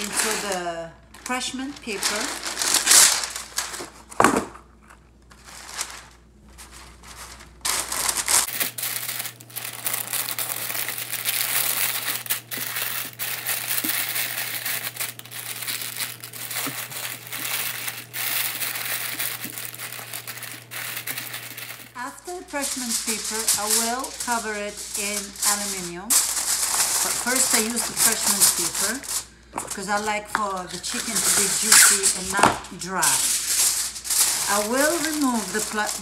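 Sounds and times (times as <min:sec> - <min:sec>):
parchment paper crinkling: 0:00.0 - 0:36.0.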